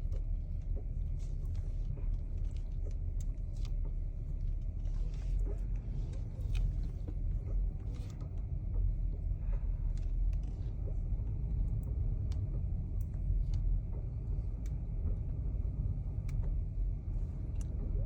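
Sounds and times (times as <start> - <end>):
car engine low rumble: 0.0 - 18.0
faint clicks from steering: 0.0 - 18.0.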